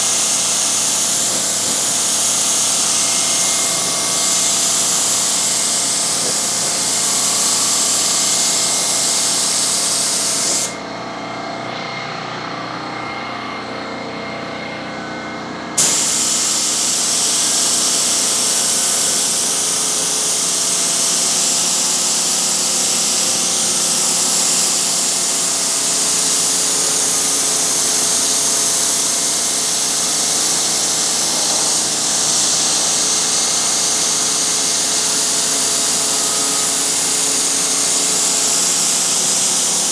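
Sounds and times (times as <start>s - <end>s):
paint spray gun hissing: 0.0s - 10.8s, 15.8s - 39.9s.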